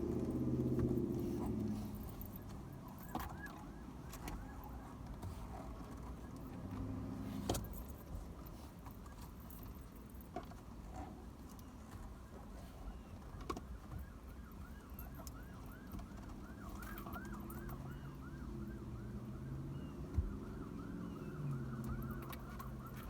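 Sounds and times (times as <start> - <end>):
distant siren yelping: 0.0 - 9.8, 11.7 - 23.0
low vehicle hum: 0.0 - 23.0.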